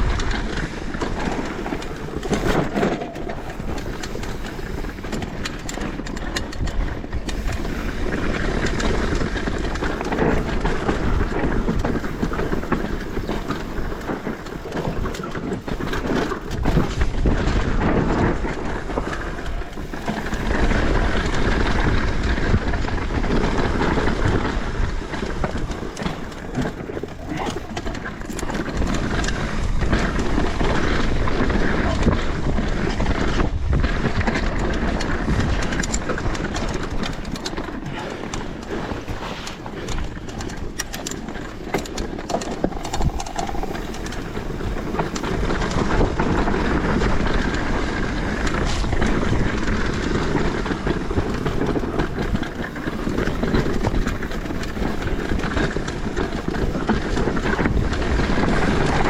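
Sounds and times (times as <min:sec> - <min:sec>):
bike rattling and knocking: 0:00.0 - 0:59.0
tyres on rough dirt: 0:00.0 - 0:59.0
wind on microphone: 0:00.0 - 0:59.0.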